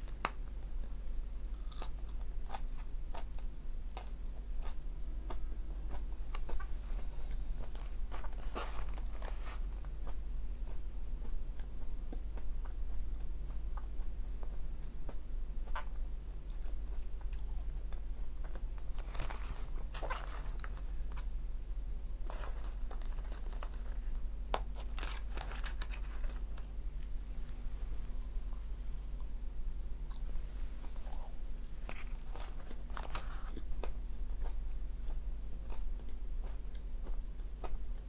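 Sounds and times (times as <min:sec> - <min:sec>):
person chewing: 0:00.0 - 0:21.3, 0:22.2 - 0:29.4, 0:30.0 - 0:38.0
steady low hum: 0:00.0 - 0:38.0.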